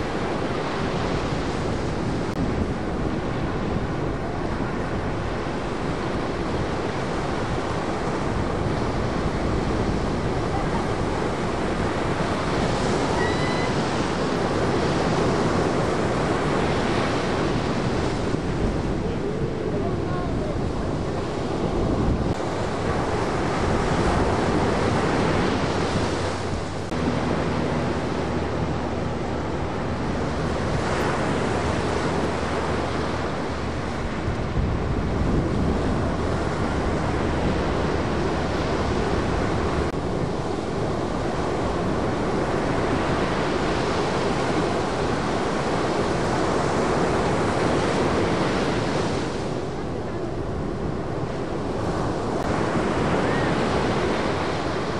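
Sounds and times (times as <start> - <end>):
ocean surf breaking: 0.0 - 54.9
wind on microphone: 0.0 - 54.9.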